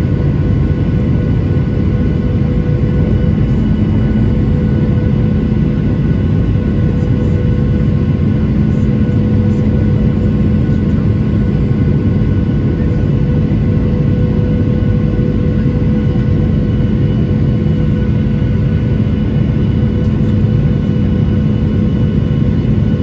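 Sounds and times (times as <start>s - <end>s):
airplane cabin engine rumble: 0.0s - 23.0s
steady humming tones: 0.0s - 23.0s.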